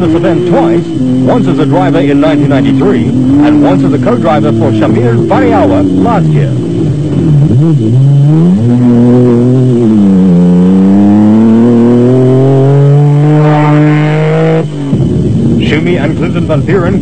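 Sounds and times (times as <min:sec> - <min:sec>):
race car engine driving past: 0:00.0 - 0:16.6.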